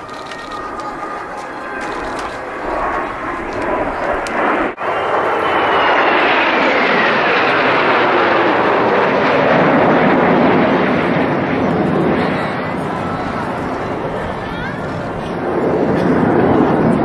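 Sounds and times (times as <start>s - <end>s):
jet roar: 0.0s - 17.0s.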